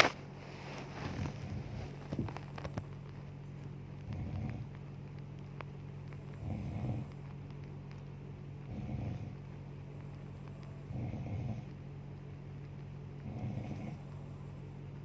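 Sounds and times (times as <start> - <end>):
steady low hum: 0.0 - 15.0
faint clicks: 2.0 - 15.0.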